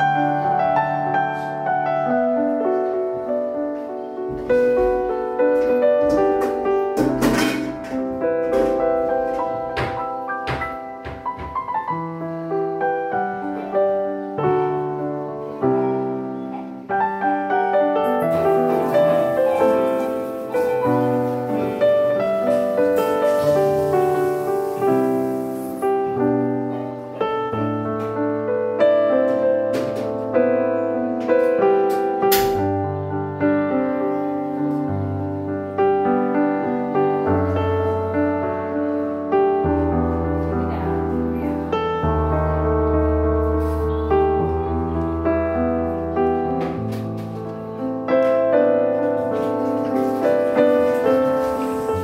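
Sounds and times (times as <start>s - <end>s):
gentle piano music: 0.0s - 52.0s.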